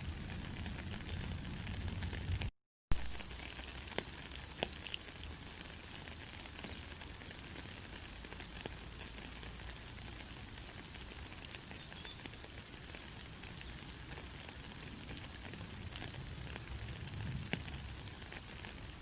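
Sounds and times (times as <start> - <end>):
faint crackles: 0.1 - 19.0.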